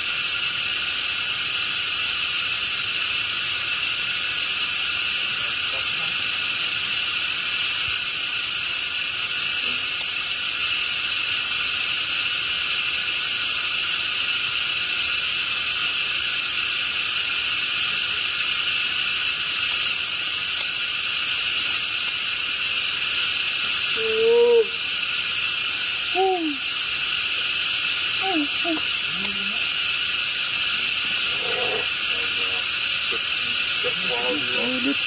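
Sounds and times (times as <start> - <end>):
insect chorus droning: 0.0 - 35.0.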